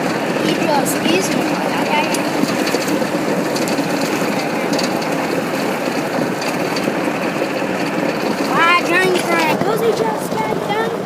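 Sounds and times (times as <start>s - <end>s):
rattles and knocks: 0.0s - 10.7s
golf cart driving: 0.0s - 11.0s.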